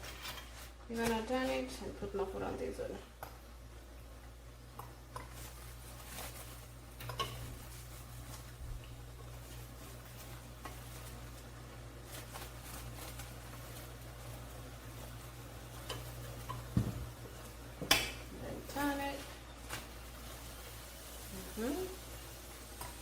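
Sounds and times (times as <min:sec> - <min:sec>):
steady low hum: 0:00.0 - 0:23.0
flatbread sizzling in a pan: 0:03.6 - 0:23.0.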